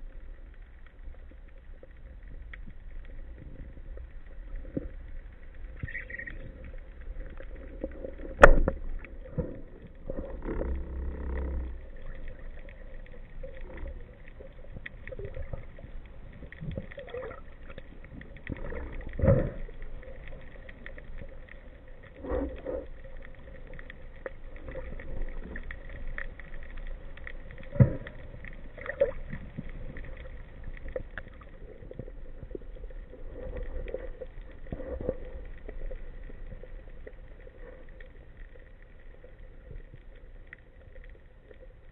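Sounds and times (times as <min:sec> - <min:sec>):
underwater water rush: 0:00.0 - 0:41.9.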